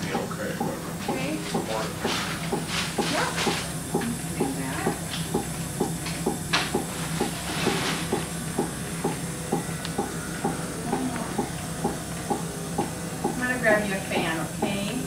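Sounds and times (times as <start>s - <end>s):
low hum: 0.0s - 15.0s
doppler heartbeat whooshing: 1.0s - 14.8s.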